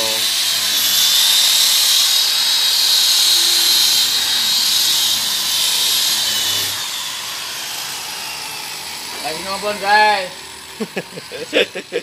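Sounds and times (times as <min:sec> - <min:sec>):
electric car polisher whining: 0:00.0 - 0:12.0.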